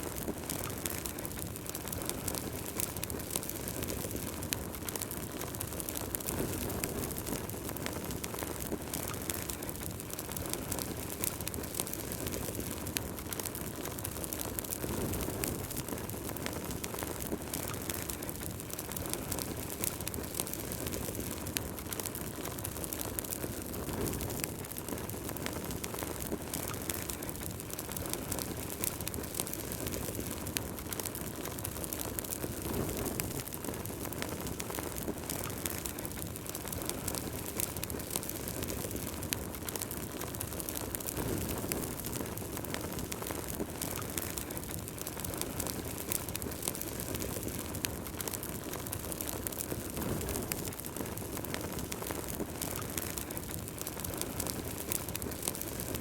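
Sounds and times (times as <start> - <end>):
fire crackles and pops: 0.0 - 56.0
fire rumbling: 0.0 - 56.0.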